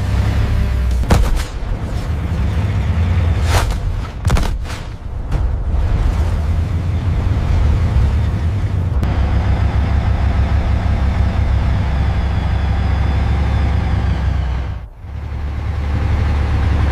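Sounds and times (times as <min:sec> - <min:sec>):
tank engine rumbling: 0:00.0 - 0:16.9.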